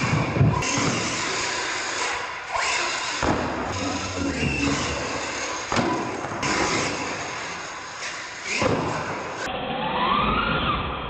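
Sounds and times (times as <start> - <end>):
motor and tyre noise: 0.0 - 11.0.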